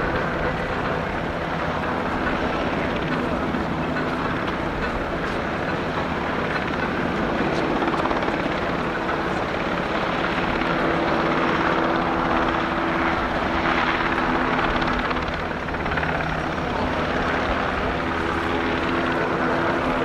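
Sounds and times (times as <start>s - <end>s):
helicopter rotor and turbine noise: 0.0s - 20.0s.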